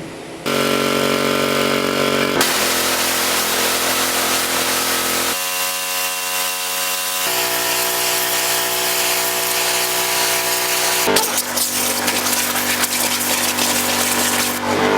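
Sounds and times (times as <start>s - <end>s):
pressure washer engine and pump: 0.4s - 14.9s.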